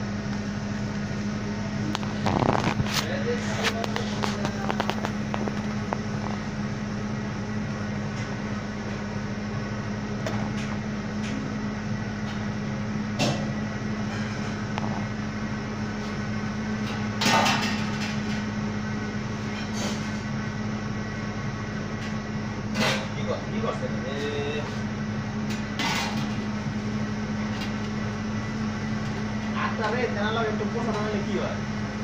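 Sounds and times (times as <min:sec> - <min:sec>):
kitchen machine humming: 0:00.0 - 0:32.0.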